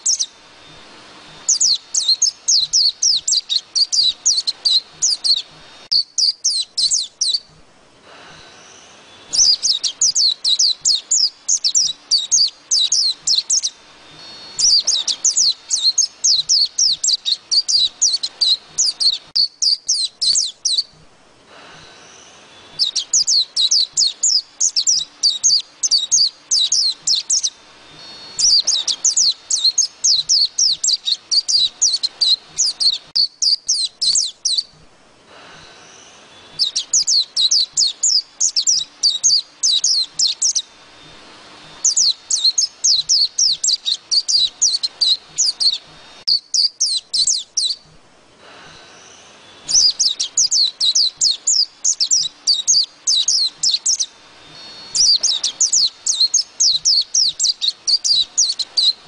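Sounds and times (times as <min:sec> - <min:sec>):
bird twittering chirps: 0:00.0 - 0:00.4, 0:01.3 - 0:07.5, 0:08.5 - 0:21.0, 0:22.0 - 0:34.8, 0:35.8 - 0:40.7, 0:41.8 - 0:47.8, 0:49.0 - 0:59.0.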